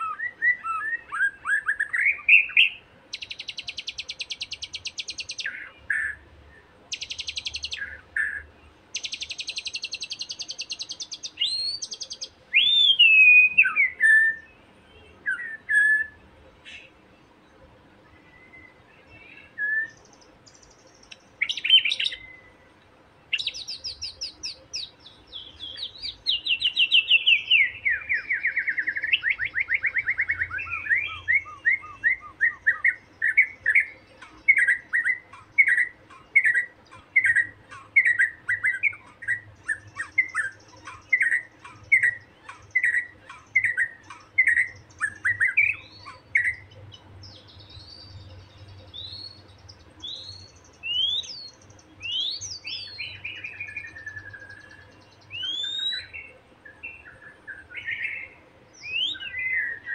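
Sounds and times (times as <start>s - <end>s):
bird calling and trilling: 0.0s - 59.9s.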